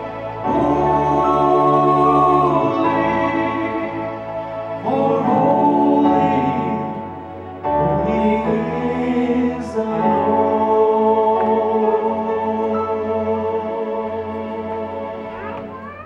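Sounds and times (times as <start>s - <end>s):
male vocal group singing in harmony: 0.0s - 15.2s.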